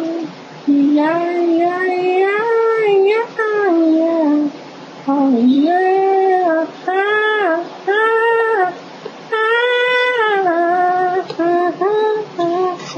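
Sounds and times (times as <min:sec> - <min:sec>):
girl singing held notes: 0:00.0 - 0:12.9.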